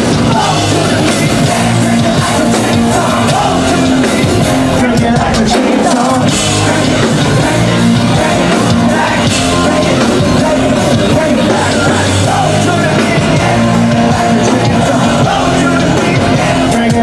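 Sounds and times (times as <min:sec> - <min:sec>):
rock band playing live: 0:00.0 - 0:17.0
shouted singing: 0:00.0 - 0:17.0.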